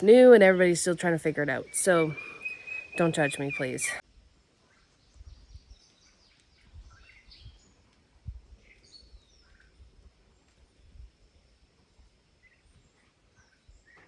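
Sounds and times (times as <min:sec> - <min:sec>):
faint bird chirps: 0:01.6 - 0:14.0.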